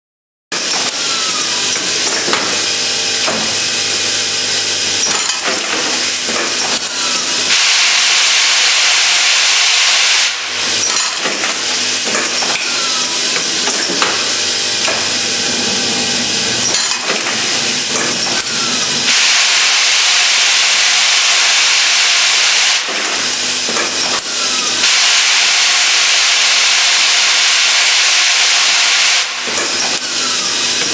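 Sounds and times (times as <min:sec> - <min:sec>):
pneumatic actuators clicking and knocking: 0:00.6 - 0:30.9
compressed air hissing: 0:05.8 - 0:30.9.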